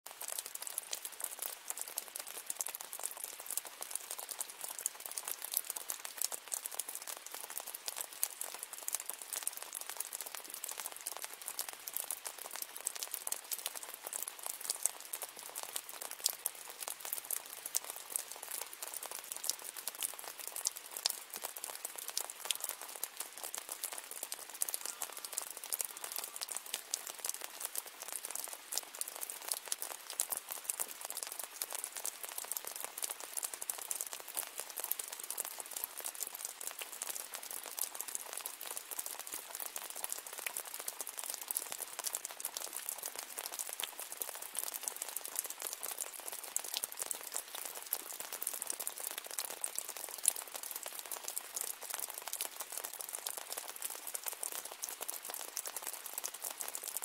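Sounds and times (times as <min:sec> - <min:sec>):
steady rain: 0:00.1 - 0:57.0.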